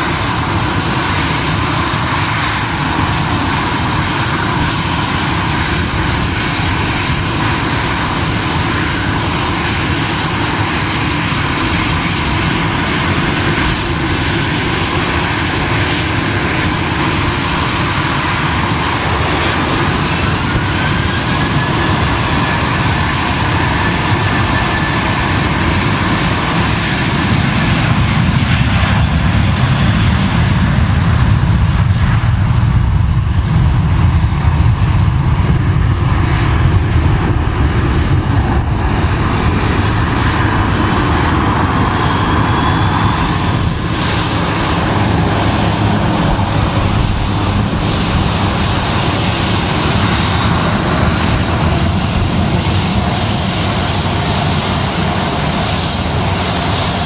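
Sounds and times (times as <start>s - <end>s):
faint engine whine: 0.0s - 57.0s
jet engines idling: 0.0s - 57.0s
jet engines powering up: 0.0s - 57.0s.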